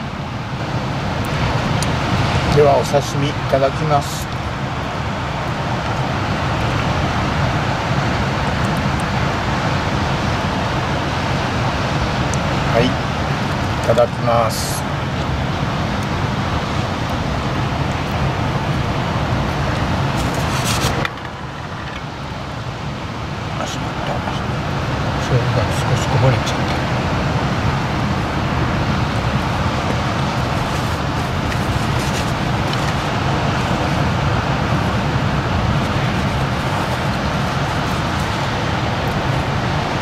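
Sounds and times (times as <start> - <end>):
surf breaking on beach: 0.0 - 22.4, 23.4 - 40.0.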